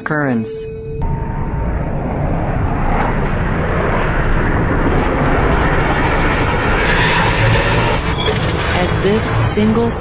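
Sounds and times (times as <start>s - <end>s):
aircraft engine rushing: 1.0s - 10.0s.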